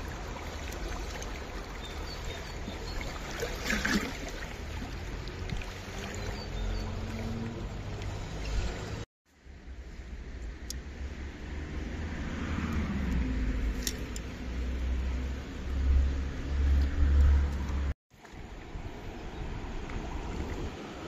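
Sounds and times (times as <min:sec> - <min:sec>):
creek water rushing: 0:00.0 - 0:09.0, 0:11.2 - 0:21.0.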